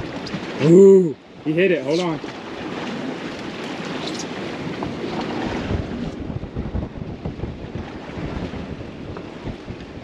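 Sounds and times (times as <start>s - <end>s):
sea water washing: 0.0s - 10.0s
wind buffeting microphone: 0.0s - 10.0s.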